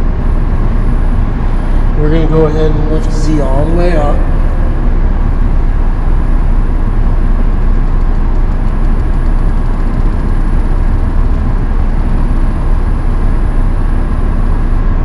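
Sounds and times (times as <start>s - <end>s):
faint steady tones: 0.0s - 15.0s
machinery rumbling and humming: 0.0s - 15.0s.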